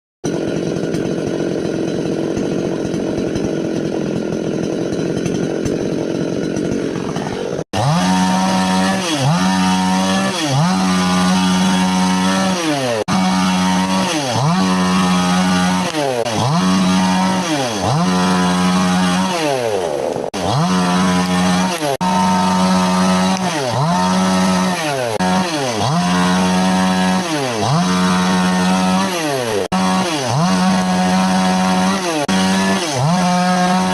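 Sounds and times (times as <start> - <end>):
chainsaw revving: 0.2 - 33.9.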